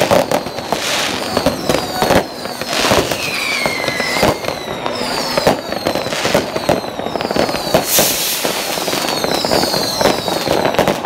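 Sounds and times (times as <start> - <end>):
firework whistles: 0.0 - 11.0
fireworks bangs and crackling: 0.0 - 11.0.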